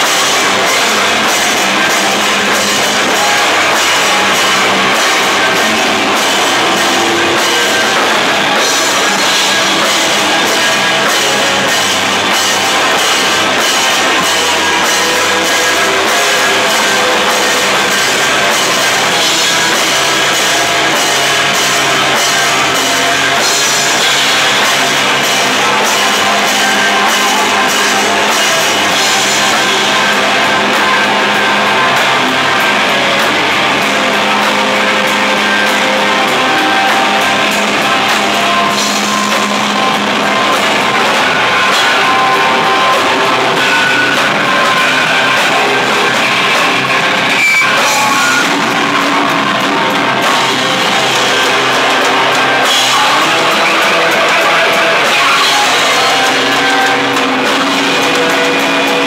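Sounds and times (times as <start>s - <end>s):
heavy rock band playing: 0.0s - 59.0s.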